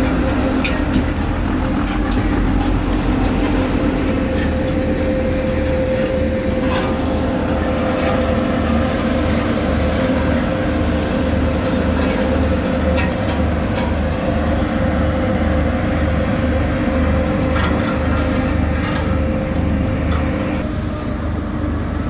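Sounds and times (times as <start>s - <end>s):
construction machinery engine drone: 0.0s - 22.0s.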